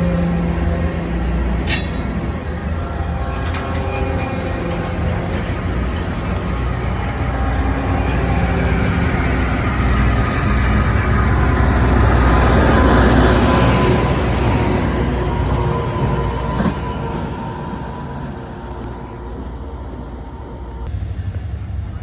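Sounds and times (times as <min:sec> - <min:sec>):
diesel locomotive passing: 0:00.0 - 0:22.0.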